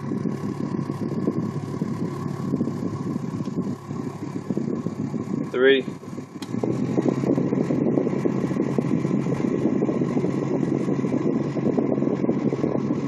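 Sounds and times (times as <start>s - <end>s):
air-conditioning fan blowing air: 0.0s - 13.0s
steady low hum: 0.0s - 13.0s.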